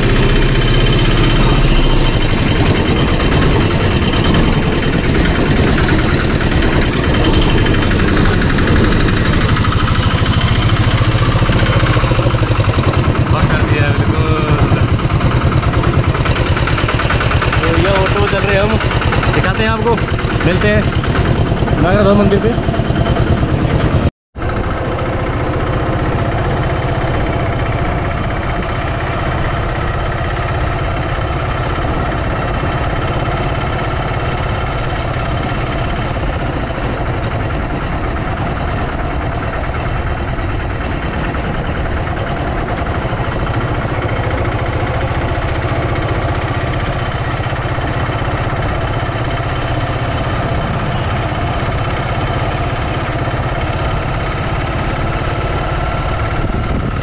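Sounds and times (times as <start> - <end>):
auto-rickshaw engine running: 0.0 - 57.0
road noise: 0.0 - 57.0.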